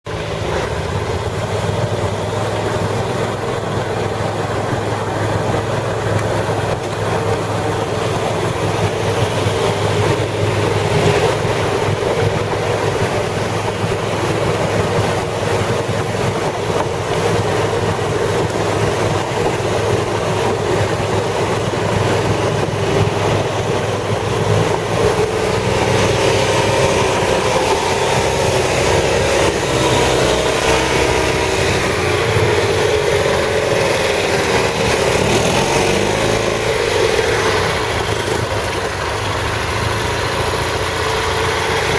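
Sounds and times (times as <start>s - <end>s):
atv engine droning: 0.0s - 41.9s.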